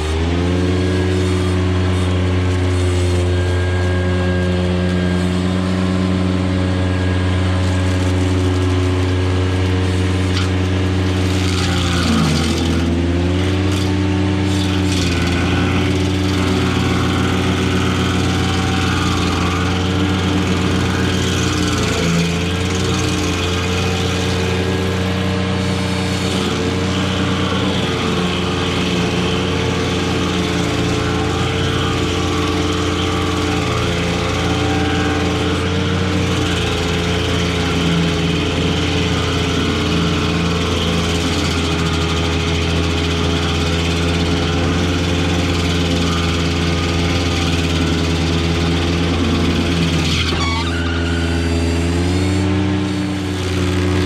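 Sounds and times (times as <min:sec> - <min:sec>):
diesel engine running: 0:00.0 - 0:54.0
stump grinder chewing wood: 0:00.0 - 0:54.0.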